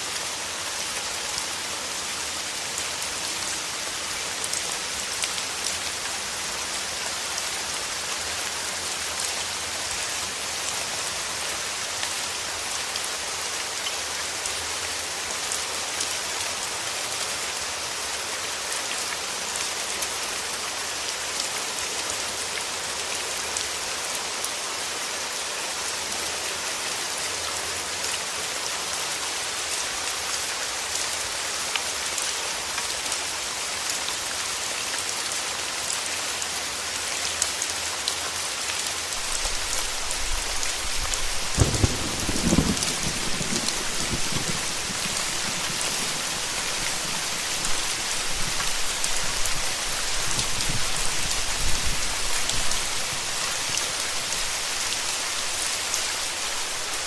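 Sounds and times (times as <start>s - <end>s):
steady rain on a surface: 0.0s - 57.0s.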